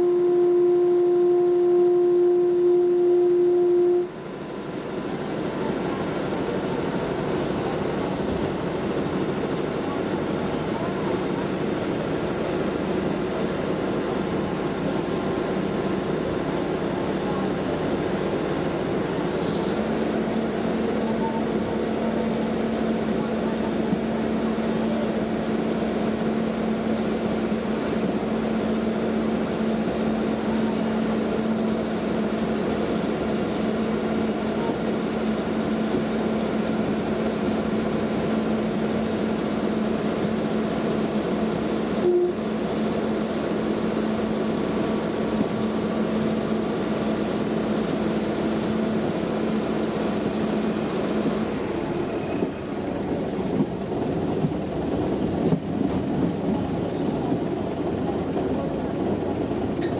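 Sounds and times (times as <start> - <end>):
diesel railbus running: 0.0 - 59.9.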